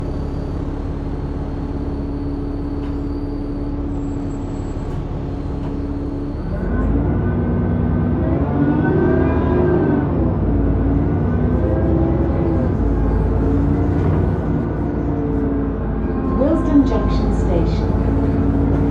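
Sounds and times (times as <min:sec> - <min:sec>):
bus drivetrain whining: 0:00.0 - 0:18.9
bus engine humming: 0:00.0 - 0:18.9.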